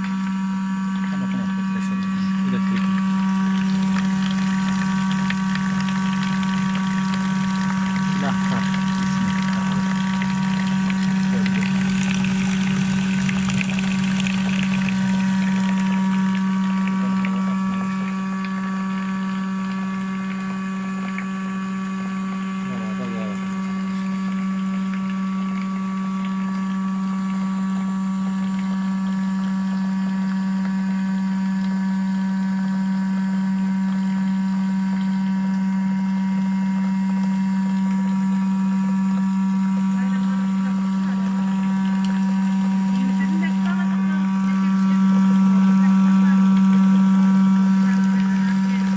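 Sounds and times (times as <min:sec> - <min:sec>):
cream separator motor humming: 0:00.0 - 0:48.9.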